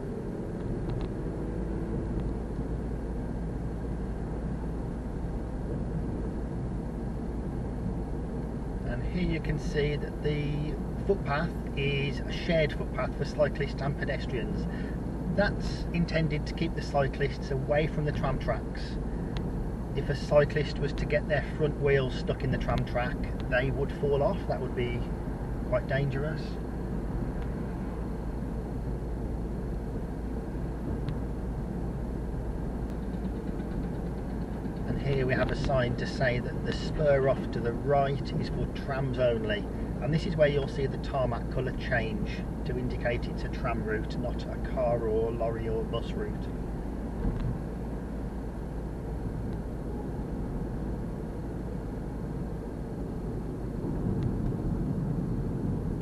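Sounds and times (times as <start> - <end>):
car engine and tyre noise: 0.0 - 56.0
road traffic rumble: 0.0 - 56.0.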